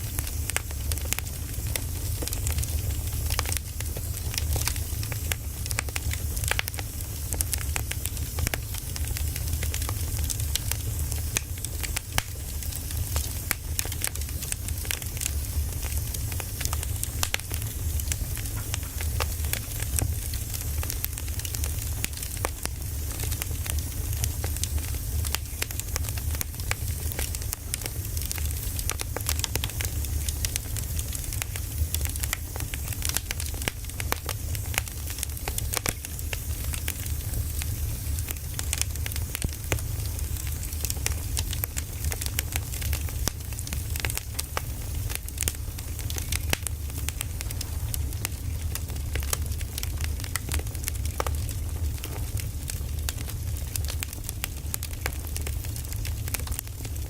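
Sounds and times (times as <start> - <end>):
firewood crackling and popping: 0.0 - 57.0
low fire rumble: 0.0 - 57.0.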